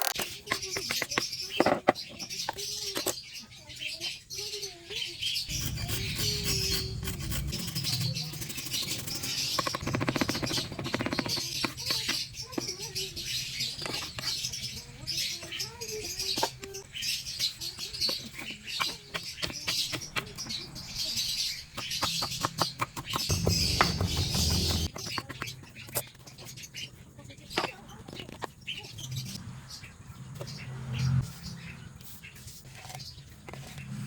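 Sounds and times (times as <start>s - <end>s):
lovebirds chirping: 0.2s - 34.0s.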